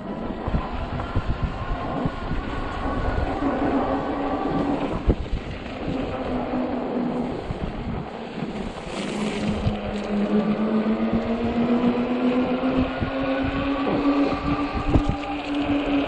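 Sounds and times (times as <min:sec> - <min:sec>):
electric bike motor whining: 0:00.0 - 0:16.0
tires on snow and ice: 0:00.0 - 0:16.0.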